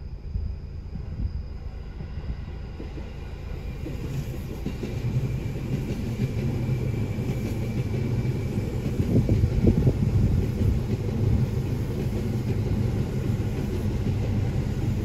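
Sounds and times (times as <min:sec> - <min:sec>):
electric train rumbling over crossing: 0:00.0 - 0:15.0.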